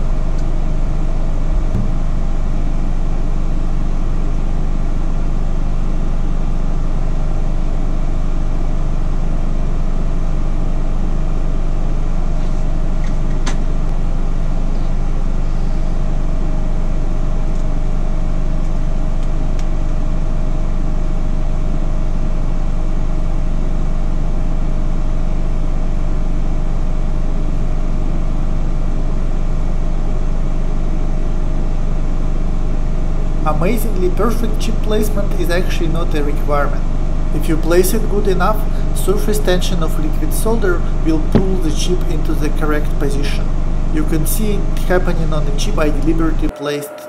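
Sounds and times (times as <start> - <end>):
cooling fan humming: 0.0 - 47.0
faint steady whine: 0.0 - 47.0.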